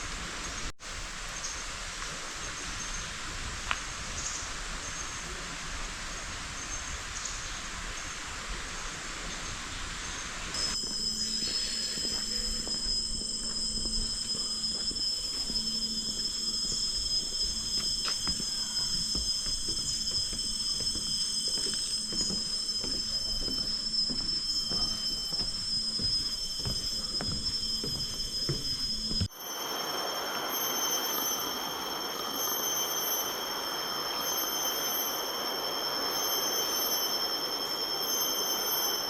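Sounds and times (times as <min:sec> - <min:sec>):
soft rushing hiss: 0:00.0 - 0:39.0
insect chorus high tones: 0:06.5 - 0:39.0.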